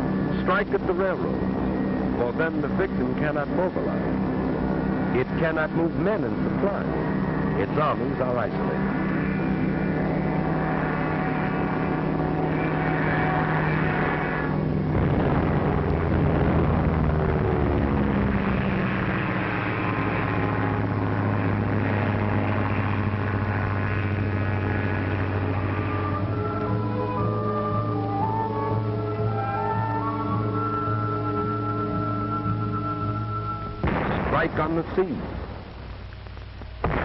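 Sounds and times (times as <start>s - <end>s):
propeller aircraft engine drone: 0.0s - 37.0s.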